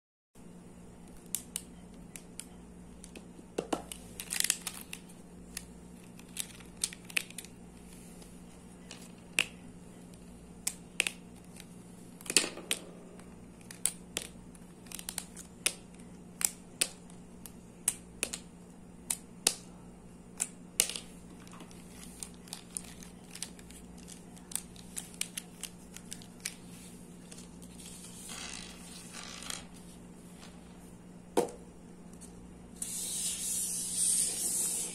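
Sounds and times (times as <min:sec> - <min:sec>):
steady low hum: 0:00.4 - 0:34.9.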